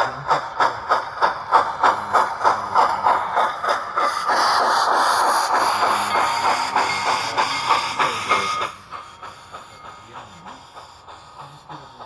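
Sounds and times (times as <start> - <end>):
rhythmic clicking of model train: 0.0 - 12.0.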